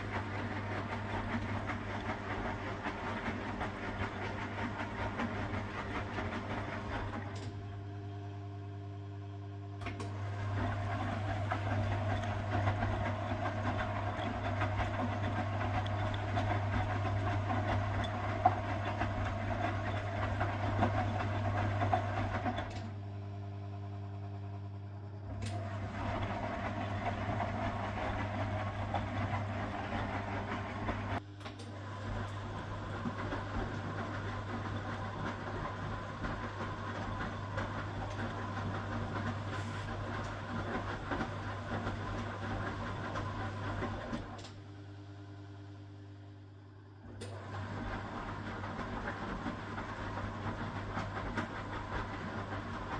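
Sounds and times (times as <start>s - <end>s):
washing machine drum churning: 0.0s - 7.7s, 9.8s - 22.9s, 25.3s - 44.5s, 47.1s - 52.9s
washing machine motor humming: 0.0s - 52.9s.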